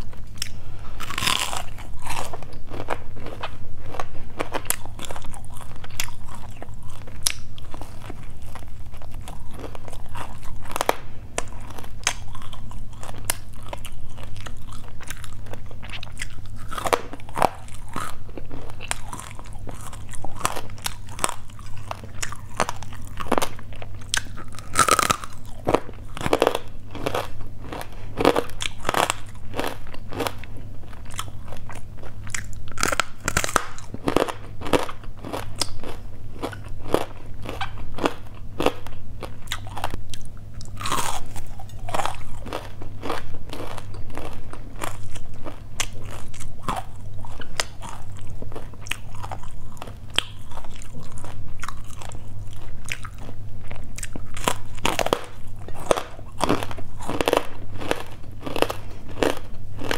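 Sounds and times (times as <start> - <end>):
crunchy biting and chewing: 0.0 - 59.9.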